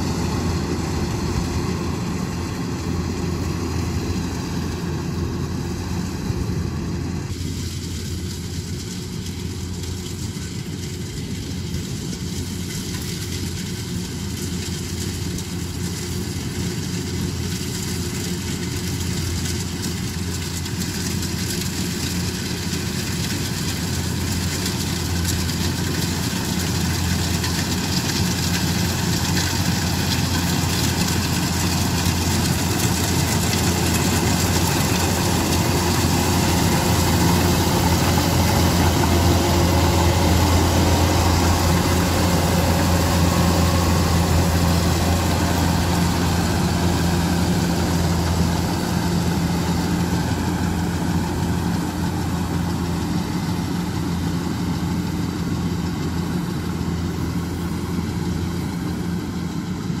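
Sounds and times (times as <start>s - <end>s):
combine harvester running: 0.0s - 60.0s.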